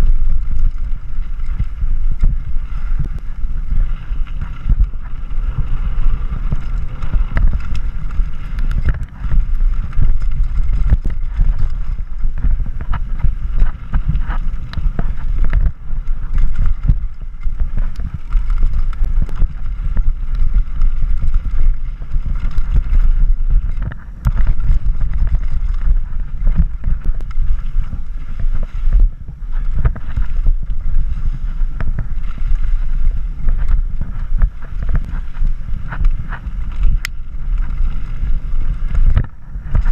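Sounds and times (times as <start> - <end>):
bike tyres rumbling over dirt: 0.0 - 39.9
wind buffeting microphone: 0.0 - 39.9.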